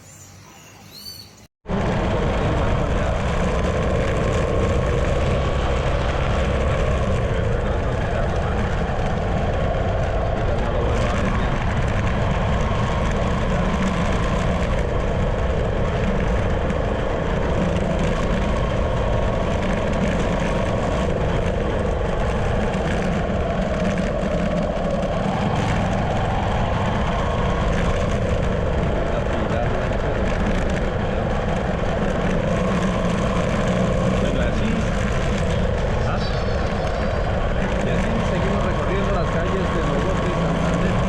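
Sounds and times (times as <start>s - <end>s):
vehicle engine running: 1.7s - 41.0s.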